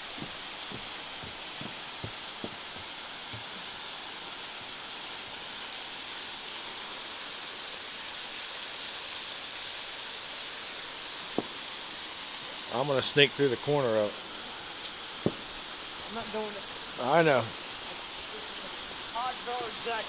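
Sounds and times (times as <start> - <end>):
small waterfall splashing on rocks: 0.0 - 20.0.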